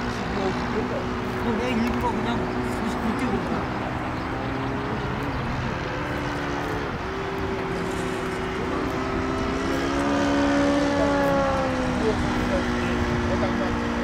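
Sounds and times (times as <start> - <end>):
model airplane motor droning: 0.0 - 14.0.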